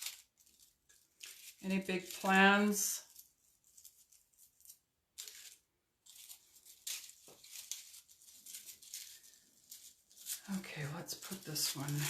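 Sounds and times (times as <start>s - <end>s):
craft flowers rustling and crinkling: 0.0s - 12.0s.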